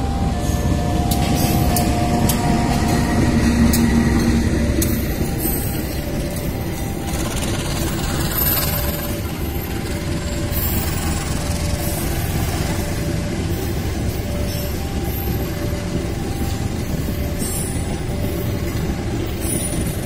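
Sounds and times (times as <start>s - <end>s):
diesel locomotive engine rumbling: 0.0s - 20.0s.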